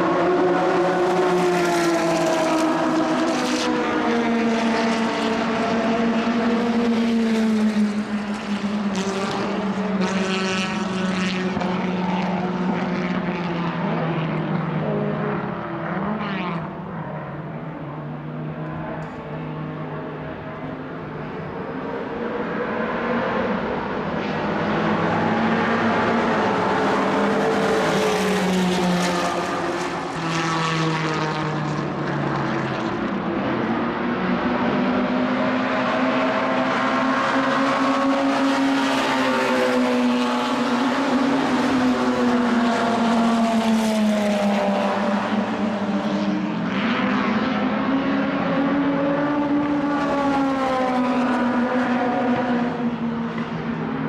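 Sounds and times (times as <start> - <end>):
racing car engine: 0.0 - 54.0.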